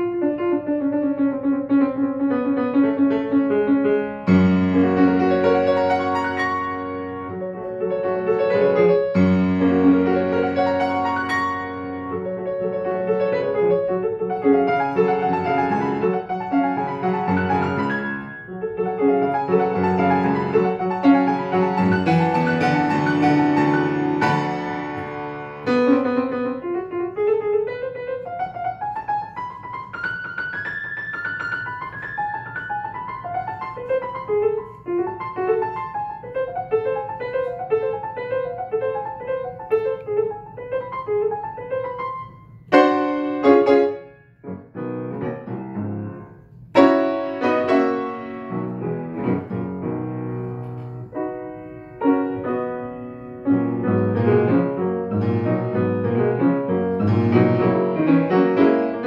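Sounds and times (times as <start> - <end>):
solo grand piano: 0.0 - 59.0.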